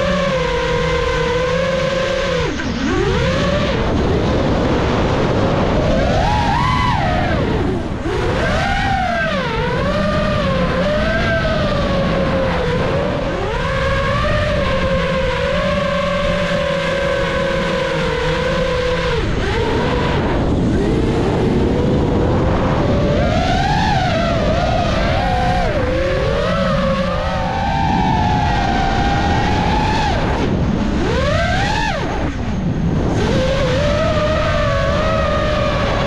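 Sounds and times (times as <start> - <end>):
drone propellers whining: 0.0 - 36.0.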